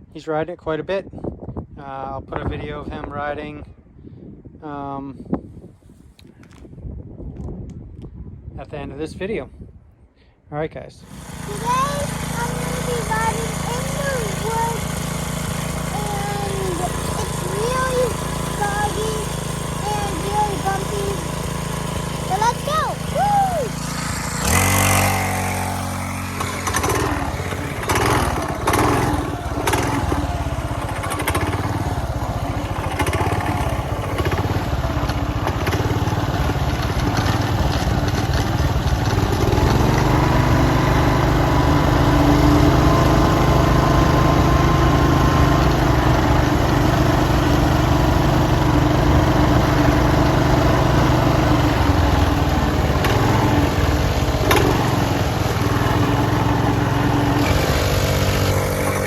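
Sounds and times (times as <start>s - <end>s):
two-stroke minibike engine: 11.0s - 59.0s.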